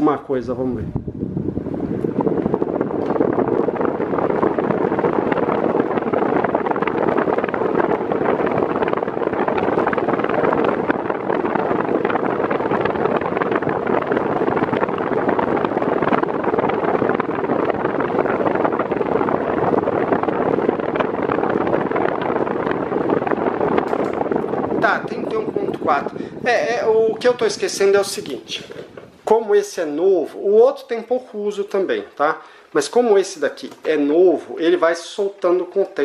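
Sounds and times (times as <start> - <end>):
airflow buffeting microphone: 0.0 - 36.0
electric fan running: 0.0 - 36.0.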